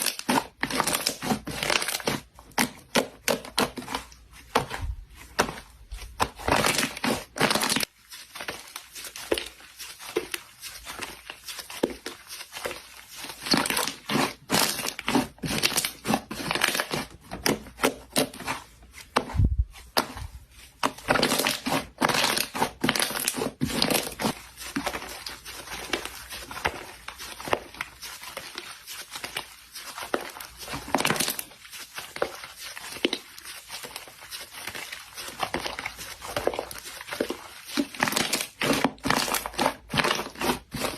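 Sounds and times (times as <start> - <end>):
slime crackling and popping: 0.0 - 4.0, 6.1 - 18.5, 20.9 - 40.9.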